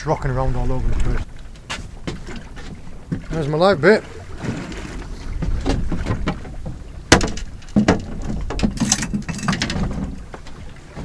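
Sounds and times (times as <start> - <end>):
knocks and clunks on boat: 0.0 - 11.0
low rumble of wind and water: 0.0 - 11.0.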